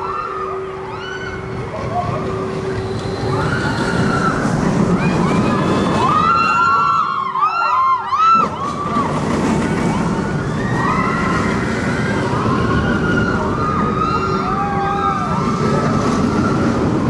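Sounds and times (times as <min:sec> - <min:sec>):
riders screaming: 0:00.0 - 0:17.0
roller coaster rumbling on track: 0:00.0 - 0:17.0.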